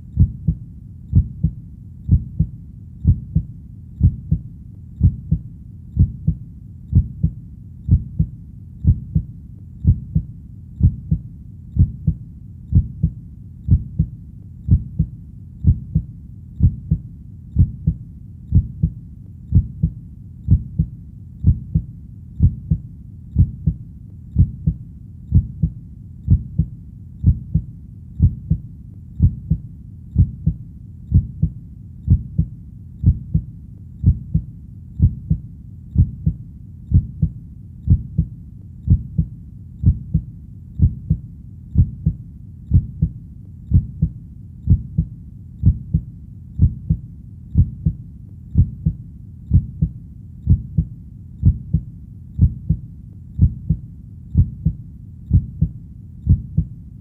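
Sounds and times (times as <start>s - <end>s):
heartbeat double thumps: 0.2s - 17.0s, 17.6s - 28.6s, 29.2s - 52.8s, 53.4s - 56.8s.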